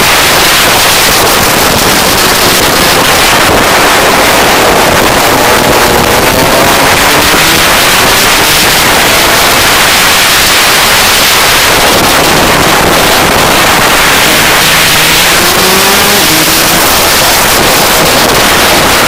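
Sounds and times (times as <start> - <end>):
kart engine revving: 0.0 - 19.0
wind rush on microphone: 0.0 - 19.0.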